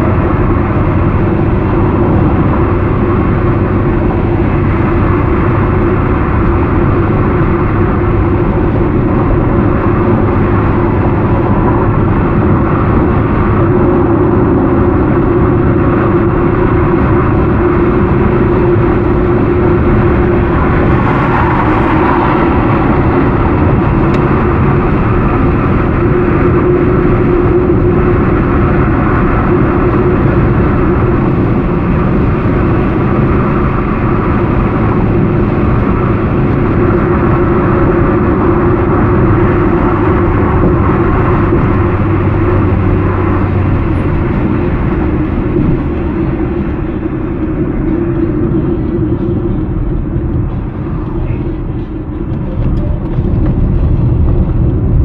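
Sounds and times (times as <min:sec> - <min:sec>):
car cabin road and engine noise: 0:00.0 - 0:55.0.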